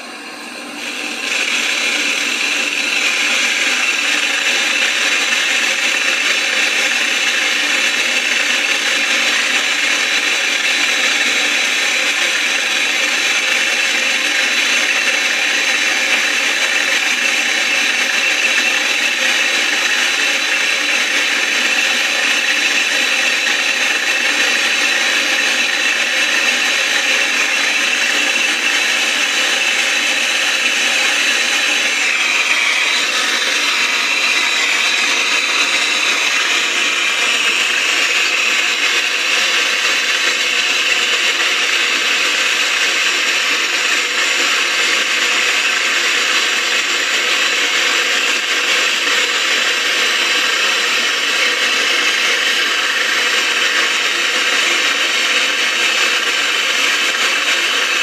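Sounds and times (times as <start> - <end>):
gas torch hissing: 0.0 - 58.0.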